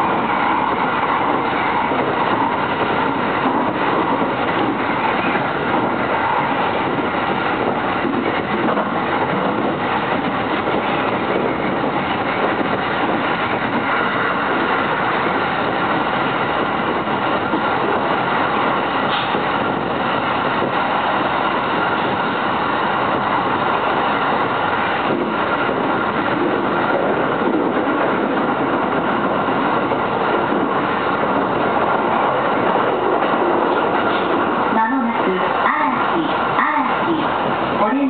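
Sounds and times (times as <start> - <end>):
train wheels on rail: 0.0 - 38.0.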